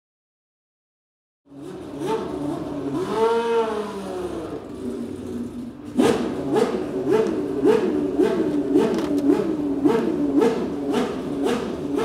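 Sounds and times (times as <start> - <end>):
race car engine revving: 1.5 - 12.0.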